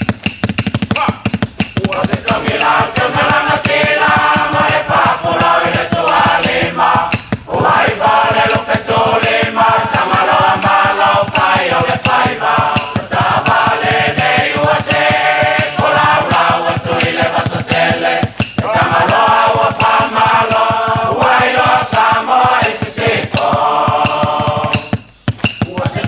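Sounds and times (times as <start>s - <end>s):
choir singing in harmony: 2.0s - 25.0s.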